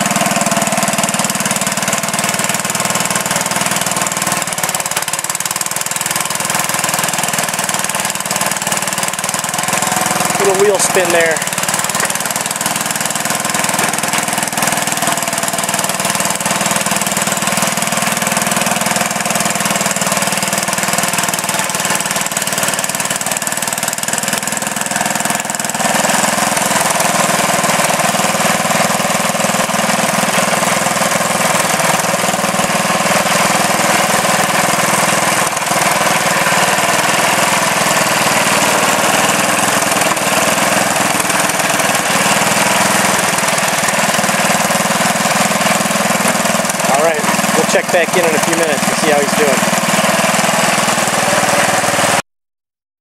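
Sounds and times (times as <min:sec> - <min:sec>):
garden tractor engine running: 0:00.0 - 0:52.2.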